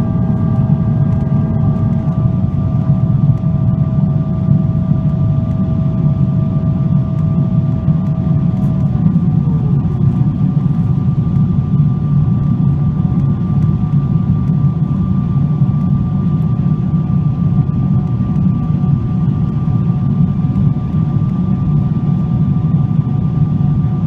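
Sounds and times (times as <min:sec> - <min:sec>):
jet engine high whine: 0:00.0 - 0:24.0
jet engine low roar in cabin: 0:00.0 - 0:24.0.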